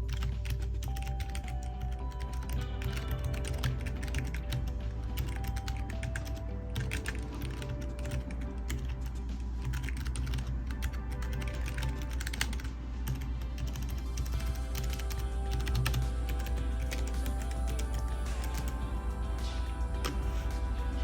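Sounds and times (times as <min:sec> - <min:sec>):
background music with low bass: 0:00.0 - 0:21.0.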